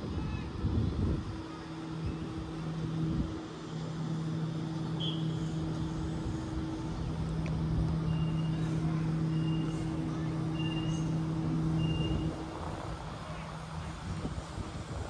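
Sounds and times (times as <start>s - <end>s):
electric train arriving: 0.0s - 15.0s.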